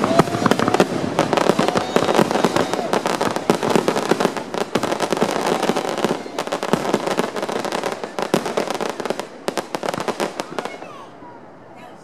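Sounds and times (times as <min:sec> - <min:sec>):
fireworks popping and crackling: 0:00.0 - 0:11.1.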